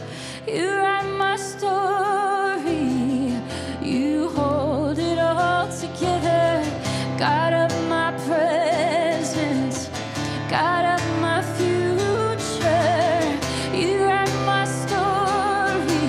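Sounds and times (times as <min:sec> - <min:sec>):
strummed acoustic guitar: 0:00.0 - 0:16.0
woman singing: 0:00.0 - 0:16.0.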